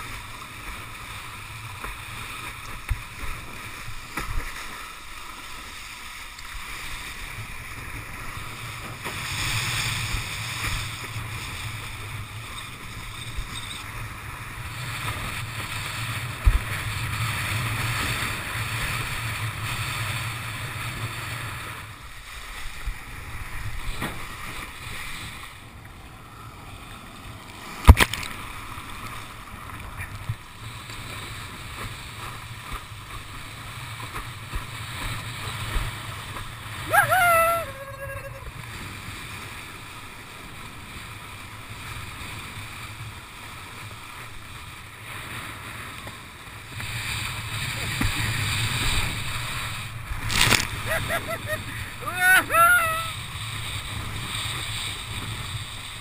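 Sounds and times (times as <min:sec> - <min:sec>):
rush of wind and water: 0:00.0 - 0:56.0.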